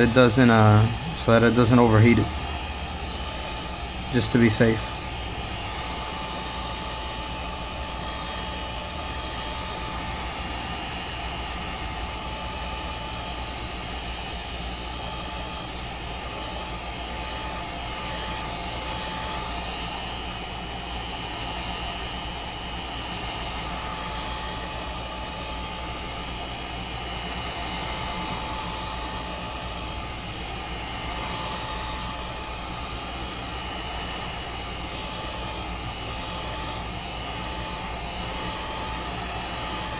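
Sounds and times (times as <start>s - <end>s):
heat gun blowing with whine: 0.0s - 39.9s.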